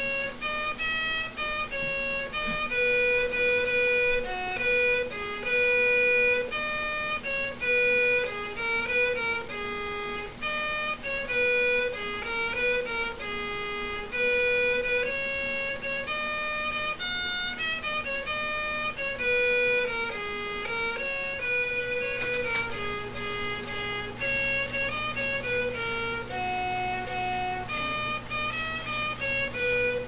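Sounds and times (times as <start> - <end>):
instrumental melody of held notes: 0.0 - 30.0.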